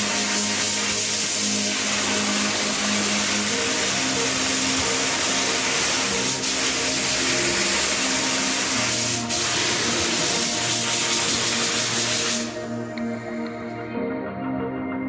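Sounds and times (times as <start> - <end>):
spray gun hissing: 0.0 - 12.7
background music: 0.0 - 15.0.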